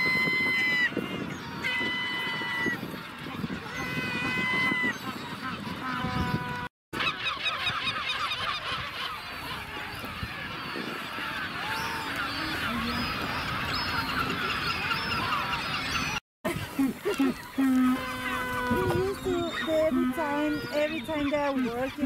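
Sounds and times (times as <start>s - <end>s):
seabirds calling in chorus: 0.0s - 22.0s.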